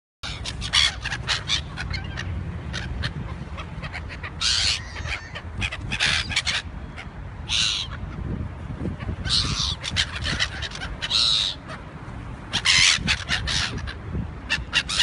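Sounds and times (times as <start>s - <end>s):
gulls squawking: 0.2s - 8.3s, 8.9s - 15.0s.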